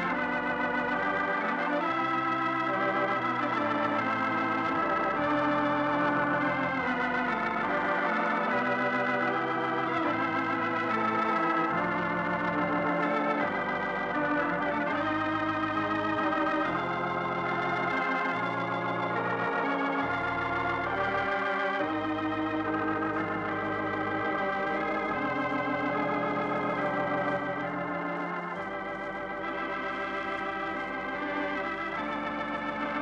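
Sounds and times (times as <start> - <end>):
organ chords with vibrato: 0.0 - 33.0.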